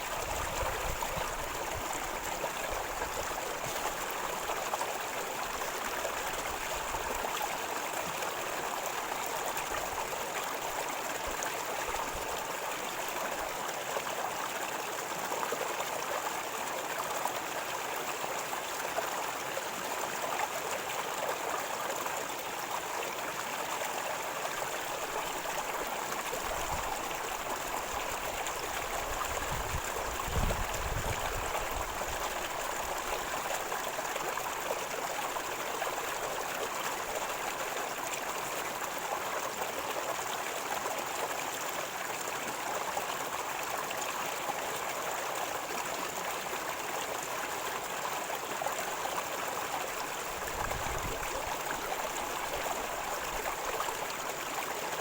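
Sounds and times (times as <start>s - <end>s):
river water gurgling over stones: 0.0s - 55.0s.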